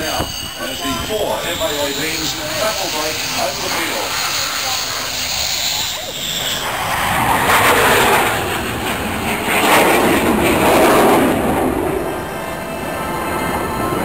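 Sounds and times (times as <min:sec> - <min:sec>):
jet fighters passing over: 0:00.0 - 0:14.0.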